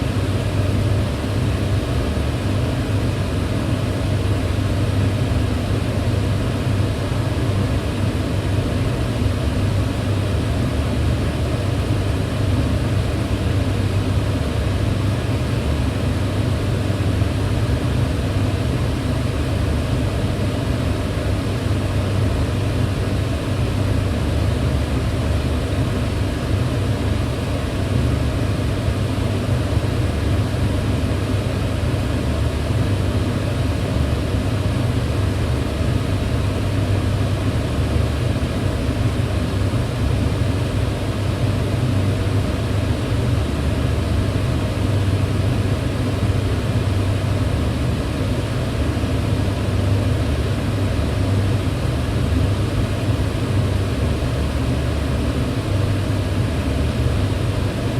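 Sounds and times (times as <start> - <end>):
range hood fan humming: 0.0 - 57.9.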